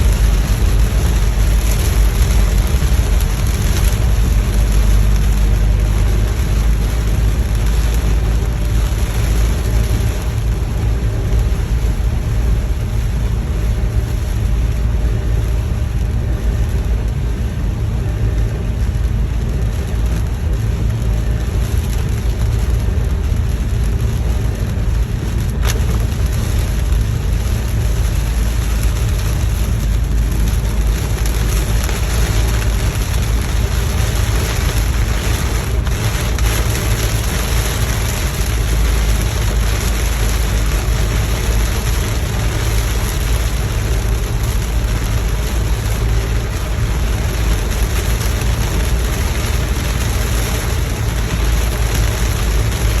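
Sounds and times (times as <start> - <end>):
car engine and tyres rumbling: 0.0 - 53.0
rain hissing: 0.0 - 53.0.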